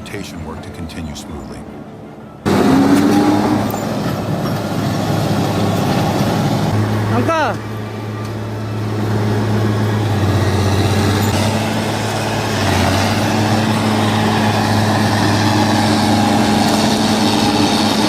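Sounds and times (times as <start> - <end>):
heavy vehicle engine humming: 0.0 - 18.0.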